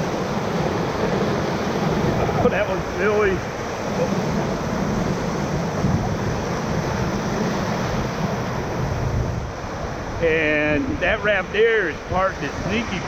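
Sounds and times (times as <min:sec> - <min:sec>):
river whitewater rushing: 0:00.0 - 0:13.0.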